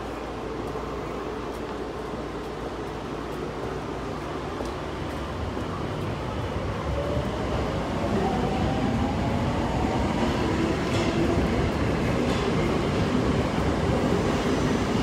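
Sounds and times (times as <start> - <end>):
subway train running: 0.0 - 15.0.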